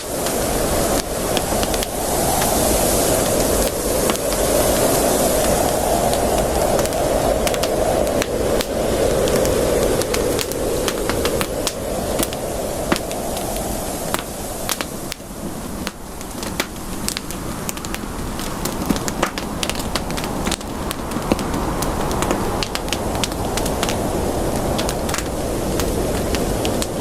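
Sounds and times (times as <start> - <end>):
burning wood popping and snapping: 0.0 - 27.0
rushing hiss of flames: 0.0 - 27.0.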